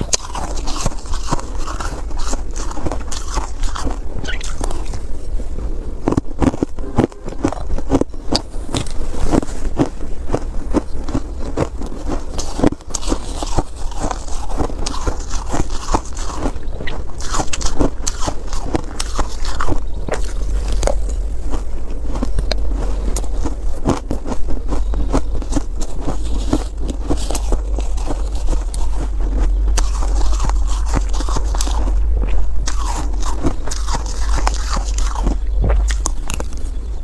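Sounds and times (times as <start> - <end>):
crunching ice: 0.0 - 5.2, 6.0 - 37.0
steady low rumble: 0.0 - 37.0.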